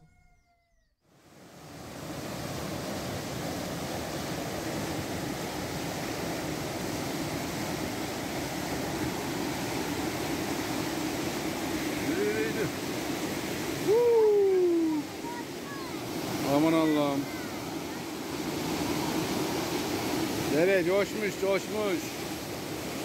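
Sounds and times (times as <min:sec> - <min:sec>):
stream rushing water roar: 0:01.2 - 0:23.0.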